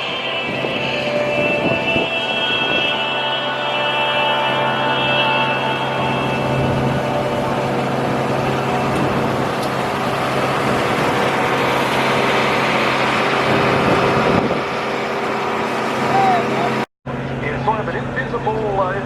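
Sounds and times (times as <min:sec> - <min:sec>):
broad rushing sound: 0:00.0 - 0:16.8
engine humming: 0:00.0 - 0:19.0.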